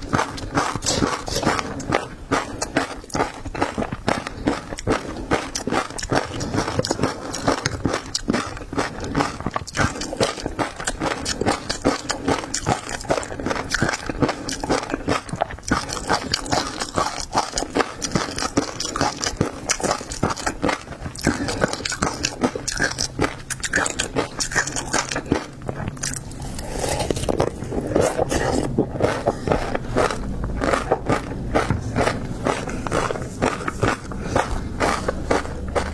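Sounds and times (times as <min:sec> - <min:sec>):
chewing and crunching seafood: 0:00.0 - 0:35.9.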